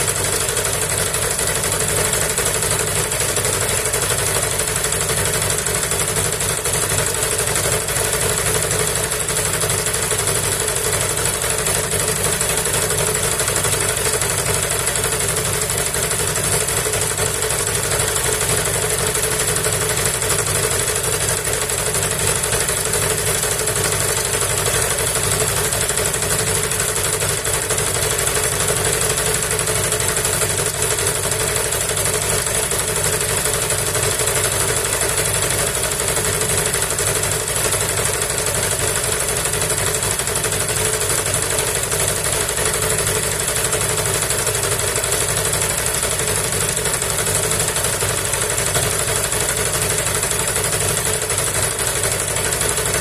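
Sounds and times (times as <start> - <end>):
generator engine running: 0.0 - 53.0.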